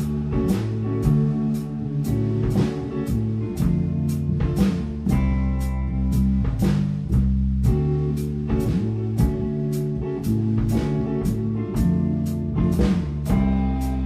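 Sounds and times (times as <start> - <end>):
bass guitar: 0.0 - 14.0
drum kit hitting: 0.0 - 14.0
electric guitar: 0.0 - 14.0.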